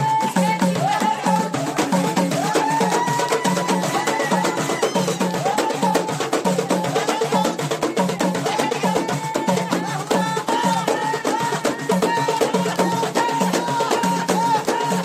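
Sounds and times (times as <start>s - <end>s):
hand drums played fast: 0.0s - 15.0s.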